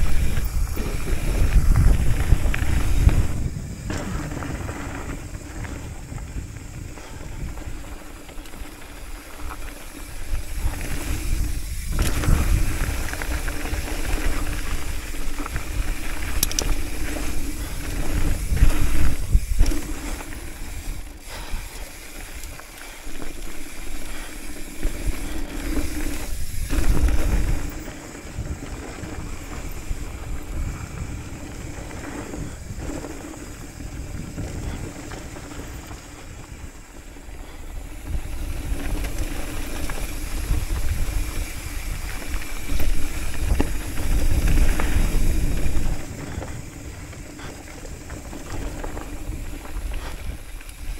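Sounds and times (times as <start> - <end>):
bike rattling: 0.0 - 50.9
bike tyres rolling on dirt: 0.0 - 50.9
wind rush on microphone: 0.0 - 50.9.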